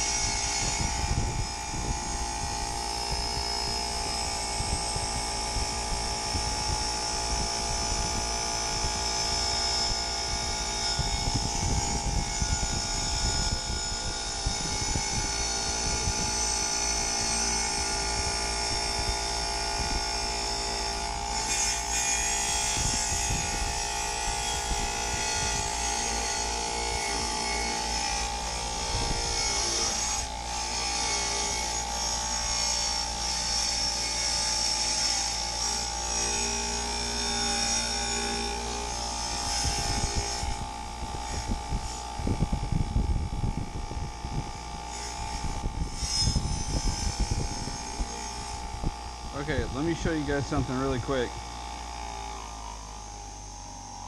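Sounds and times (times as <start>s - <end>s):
wire wheel scrubbing rust off metal: 0.0s - 53.9s.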